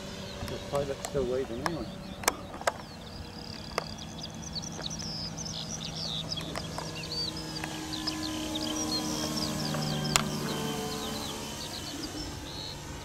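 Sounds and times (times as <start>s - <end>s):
birds chirping: 0.0s - 13.0s
model airplane propeller droning: 0.0s - 13.0s.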